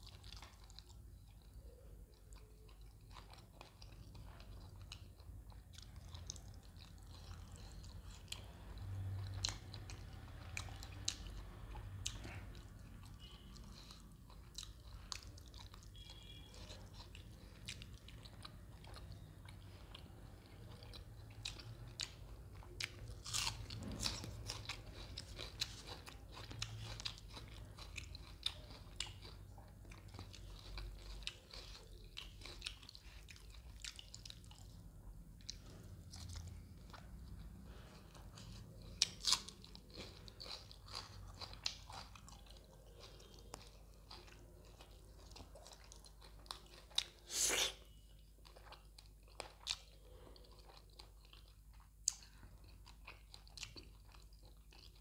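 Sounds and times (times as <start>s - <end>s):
chewing crisp food: 0.0s - 55.0s.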